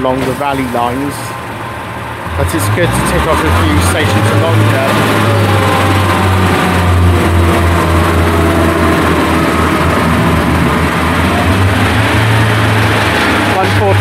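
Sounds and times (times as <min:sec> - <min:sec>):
train diesel engines throbbing: 0:00.0 - 0:14.0.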